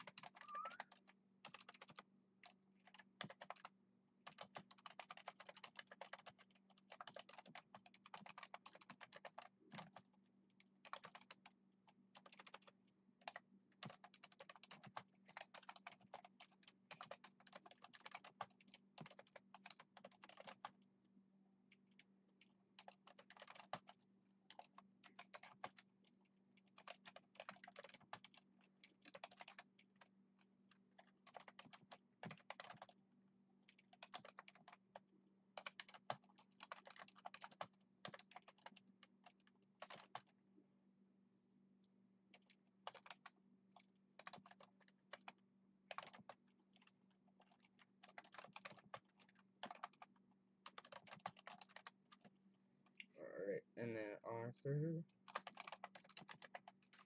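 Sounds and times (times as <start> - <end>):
keyboard typing clicks: 0.0 - 10.0, 10.8 - 11.5, 12.2 - 20.8, 21.8 - 25.9, 26.7 - 30.1, 31.0 - 33.0, 33.7 - 35.0, 35.6 - 40.4, 42.3 - 52.3, 55.3 - 57.0.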